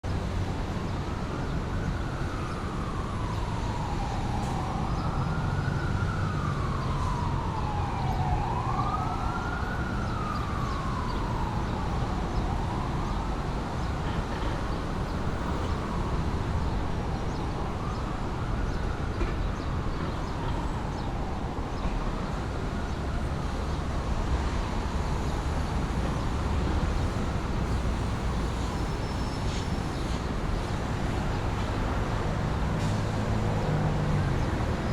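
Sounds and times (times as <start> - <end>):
low traffic rumble: 0.0 - 34.9
emergency siren wailing: 1.1 - 34.9.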